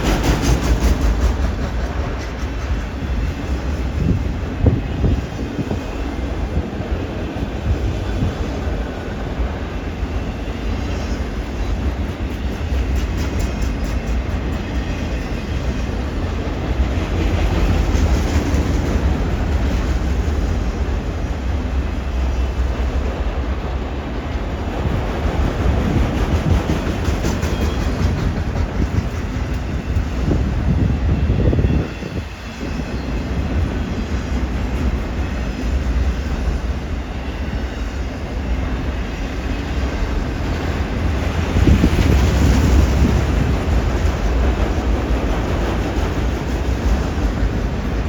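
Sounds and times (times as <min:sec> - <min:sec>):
freight train cars rumbling: 0:00.0 - 0:48.0.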